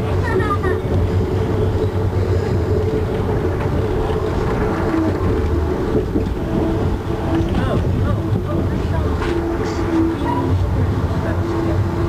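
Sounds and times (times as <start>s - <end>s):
constant hum: 0.0s - 12.0s
train wheels rumbling on rails: 0.0s - 12.0s.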